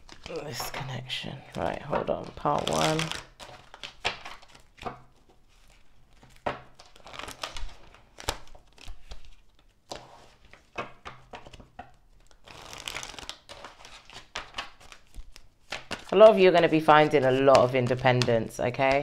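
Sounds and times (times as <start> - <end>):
cards being shuffled: 0.0 - 19.0.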